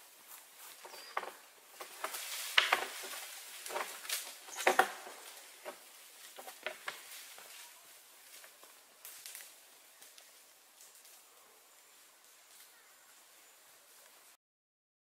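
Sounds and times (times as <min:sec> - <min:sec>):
rustling and snapping of leaves: 0:00.3 - 0:12.8.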